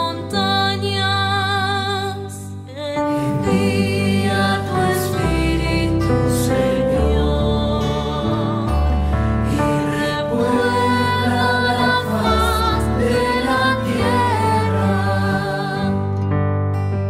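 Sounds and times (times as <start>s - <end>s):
person singing with vibrato: 0.0s - 16.2s.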